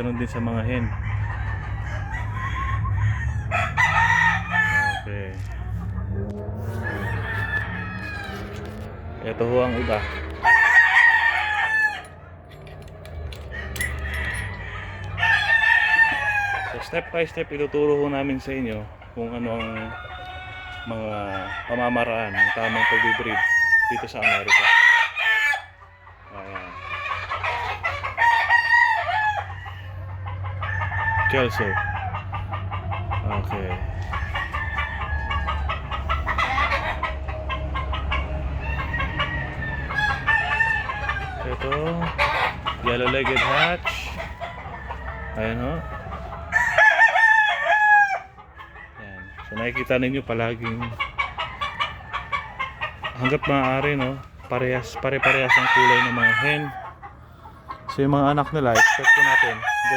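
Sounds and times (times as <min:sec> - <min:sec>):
chickens clucking: 0:00.0 - 0:59.9
roosters crowing: 0:00.0 - 0:59.9.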